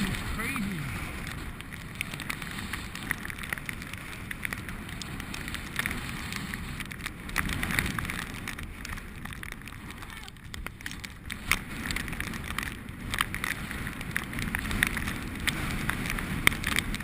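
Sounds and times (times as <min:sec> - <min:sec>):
crackling clicks: 0:00.0 - 0:17.0
wind buffeting microphone: 0:00.0 - 0:17.0.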